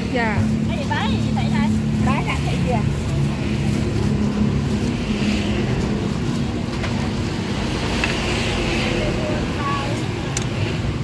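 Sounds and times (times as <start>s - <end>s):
road traffic engine hum: 0.0s - 11.0s.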